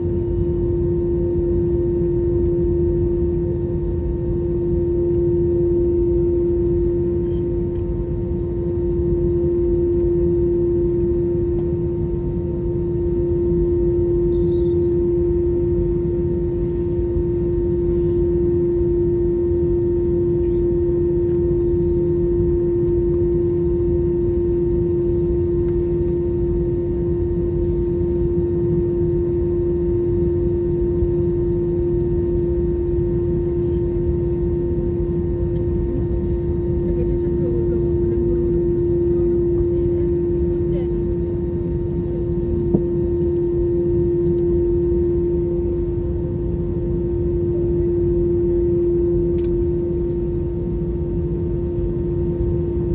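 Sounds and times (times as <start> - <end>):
aircraft cabin engine rumble: 0.0 - 52.9
strong steady hum: 0.0 - 52.9.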